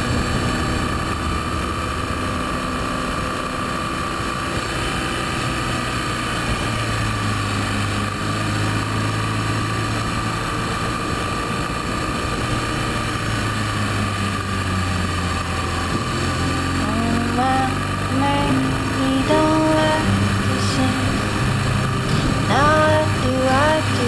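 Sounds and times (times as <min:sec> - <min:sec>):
motorcycle engine running: 0:00.0 - 0:24.0
tyres on asphalt: 0:00.0 - 0:24.0.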